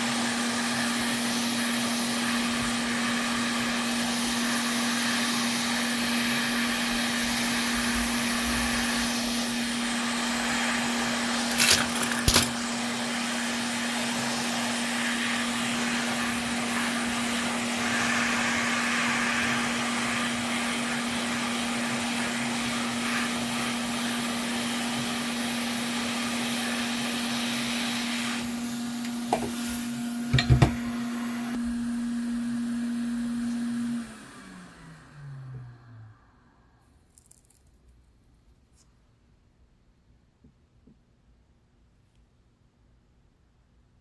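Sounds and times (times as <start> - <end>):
electric blower humming: 0.0 - 36.8.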